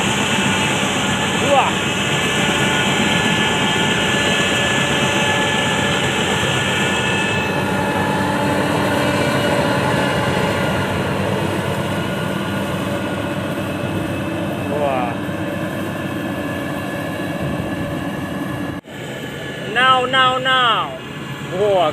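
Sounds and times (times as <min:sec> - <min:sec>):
combine harvester engine drone: 0:00.0 - 0:21.9
high whining tones: 0:00.0 - 0:21.9.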